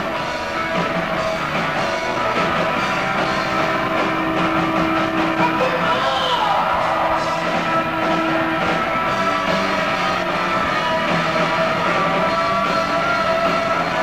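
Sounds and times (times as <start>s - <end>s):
live rock band: 0.0s - 14.0s
loud electric guitars: 0.0s - 14.0s.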